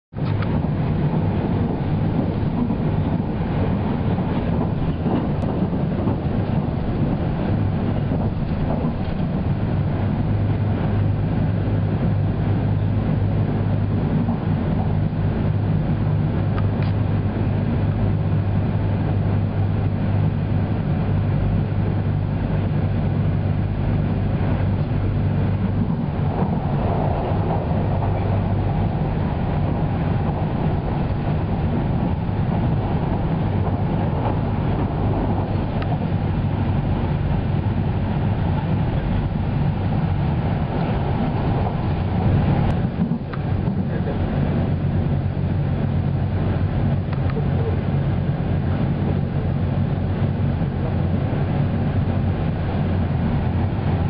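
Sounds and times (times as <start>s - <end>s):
train hum and rumble: 0.1s - 54.0s.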